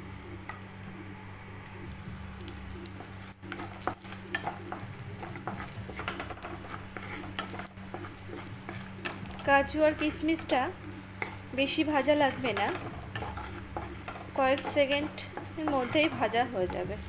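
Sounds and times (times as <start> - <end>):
nuts sizzling in hot fat: 1.4 - 17.0
wooden spatula scraping a pan: 2.4 - 17.0.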